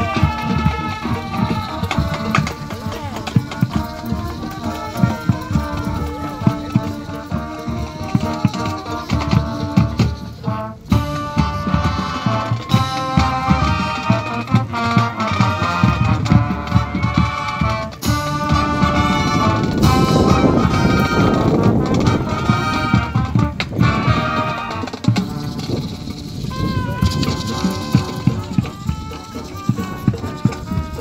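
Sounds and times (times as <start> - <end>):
bass drums and percussion: 0.0 - 31.0
marching band brass: 0.0 - 31.0.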